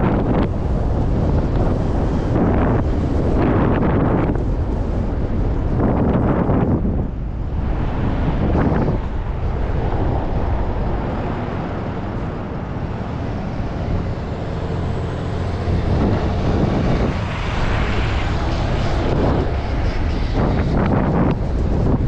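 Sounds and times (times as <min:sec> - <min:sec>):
road noise: 0:00.0 - 0:22.0
wind rushing over microphone: 0:00.0 - 0:22.0.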